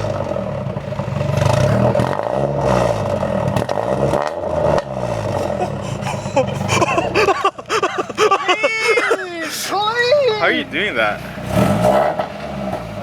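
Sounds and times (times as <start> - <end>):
car engine revving: 0.0 - 8.4, 10.5 - 13.0.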